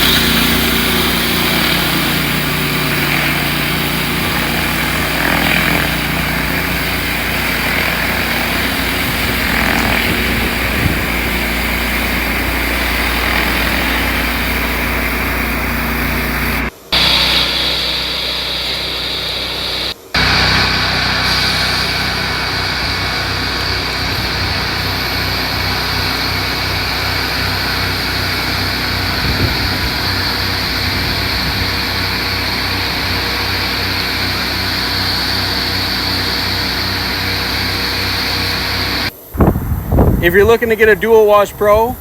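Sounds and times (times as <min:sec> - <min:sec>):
pressure washer engine and pump running: 0:00.0 - 0:42.0.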